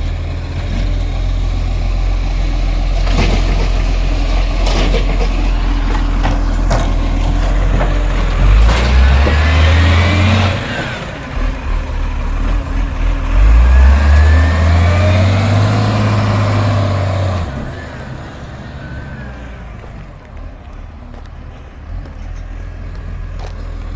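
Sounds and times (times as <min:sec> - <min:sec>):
truck diesel engine revving: 0:00.0 - 0:23.9.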